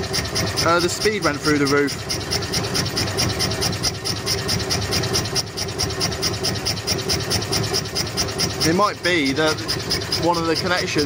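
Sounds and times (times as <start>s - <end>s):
engine clattering rapidly: 0.0s - 11.0s.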